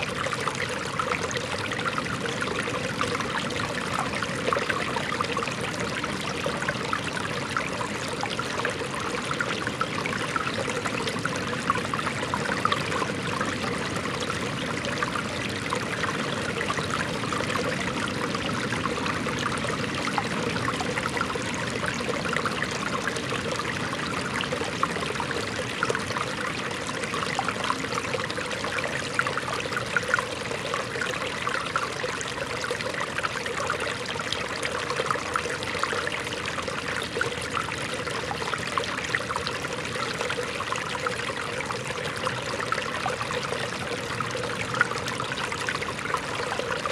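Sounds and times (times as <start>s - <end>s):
stream babbling over stones: 0.0s - 46.9s.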